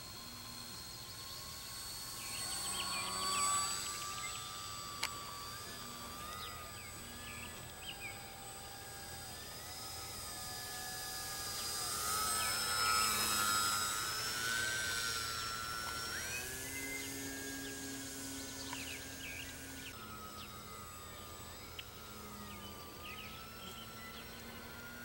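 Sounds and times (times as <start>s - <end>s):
electric motor and propeller whining: 0.0s - 25.0s.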